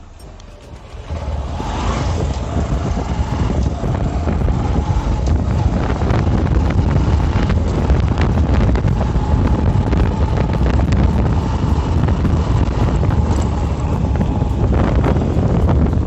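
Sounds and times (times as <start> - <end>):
motorcycle running: 0.0 - 16.0
wind buffeting microphone: 0.0 - 16.0.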